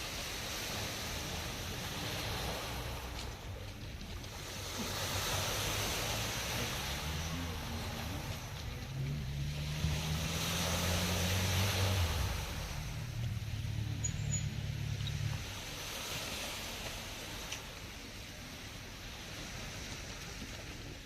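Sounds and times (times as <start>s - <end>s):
rushing outdoor noise: 0.0s - 21.0s.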